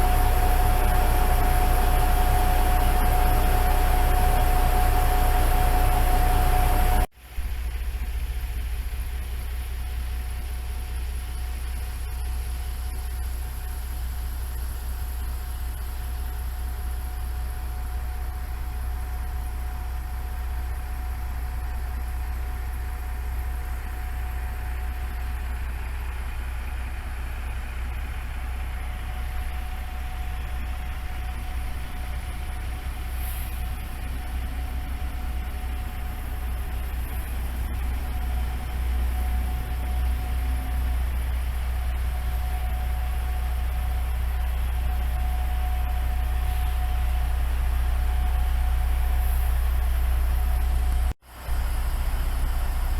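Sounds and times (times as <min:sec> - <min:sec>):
railcar engine droning: 0:00.0 - 0:52.9
thin steady whine: 0:00.0 - 0:52.9.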